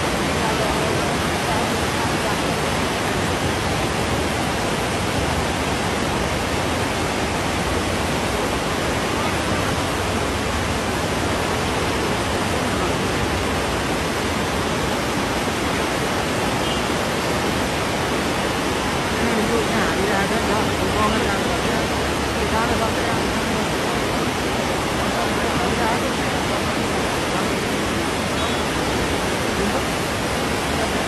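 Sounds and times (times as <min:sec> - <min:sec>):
flooded river rushing: 0:00.0 - 0:31.0.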